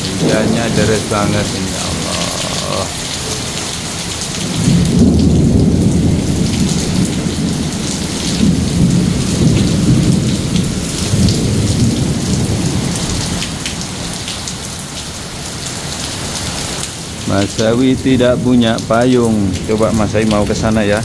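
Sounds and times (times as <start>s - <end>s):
torrential rain: 0.0s - 21.0s.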